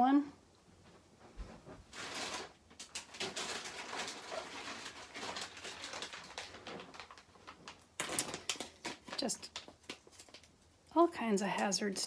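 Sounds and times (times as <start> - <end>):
rustling and tapping of craft supplies: 0.9 - 12.0.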